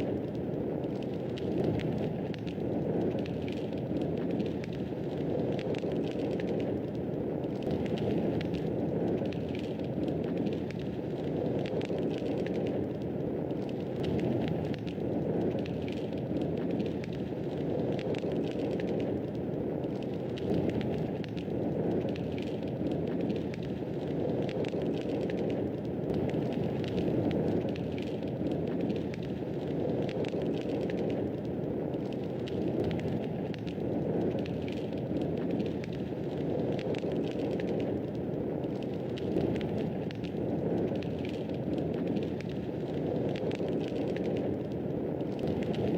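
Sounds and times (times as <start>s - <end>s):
wood fire crackling in fireplace: 0.0s - 45.9s.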